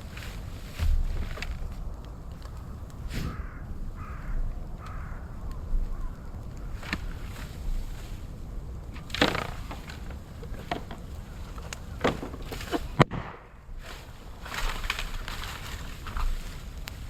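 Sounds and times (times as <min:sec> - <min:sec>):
bamboo crackling in fire: 0:00.0 - 0:17.0
sharp pops and cracks: 0:00.0 - 0:17.0.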